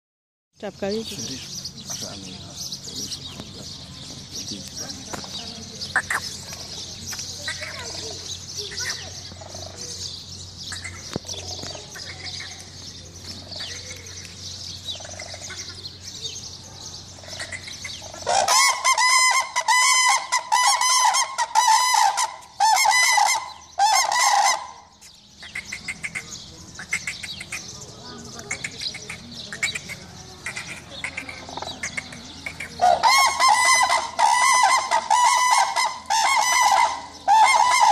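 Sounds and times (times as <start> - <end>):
small birds chirping: 0.6 - 21.6, 22.2 - 37.9
cranes trumpeting calls: 5.4 - 14.2, 14.8 - 16.2, 17.0 - 37.9.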